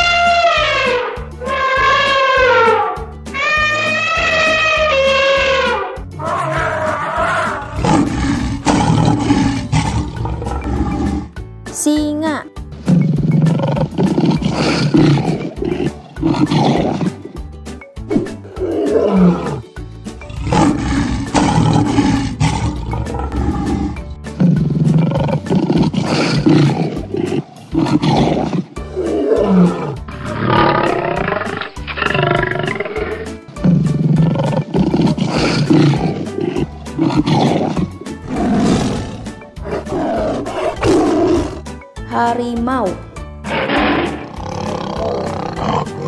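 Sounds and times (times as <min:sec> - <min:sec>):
lion roaring: 0:03.8 - 0:11.4, 0:12.8 - 0:17.4, 0:18.1 - 0:41.7, 0:43.4 - 0:46.0.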